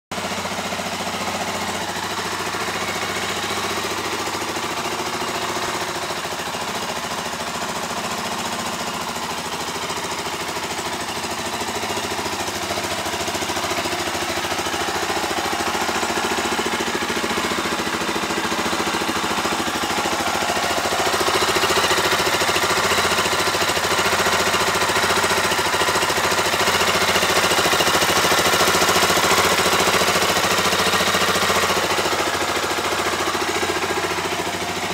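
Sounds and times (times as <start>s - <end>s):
engine running with pulsing beat: 0.1s - 34.9s.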